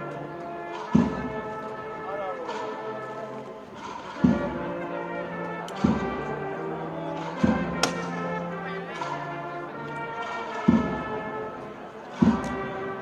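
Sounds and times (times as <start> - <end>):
brass band playing slow march: 0.0 - 13.0.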